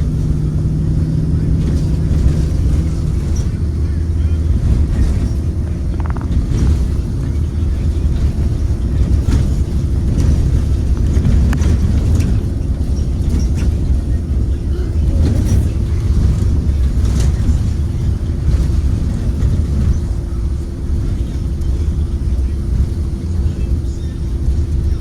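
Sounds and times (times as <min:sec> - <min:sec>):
bus engine and road rumble: 0:00.0 - 0:25.0
body rattles and knocks: 0:00.2 - 0:21.6.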